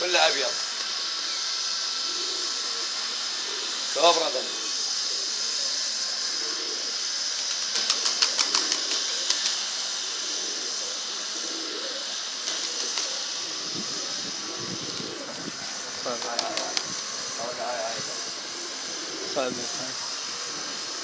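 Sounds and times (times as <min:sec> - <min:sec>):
pigeons cooing: 0:00.0 - 0:21.0
steady hiss: 0:00.0 - 0:21.0.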